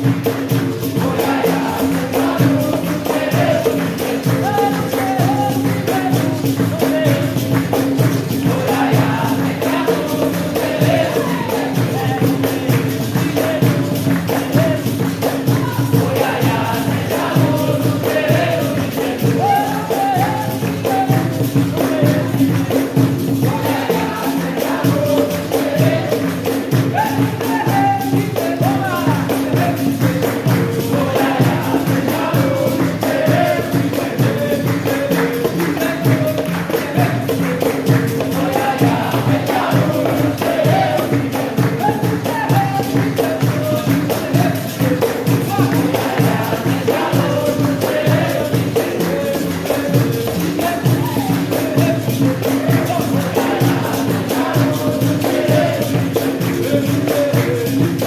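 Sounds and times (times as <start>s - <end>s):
group singing: 0.0s - 58.0s
pandeiro rhythm: 0.0s - 58.0s.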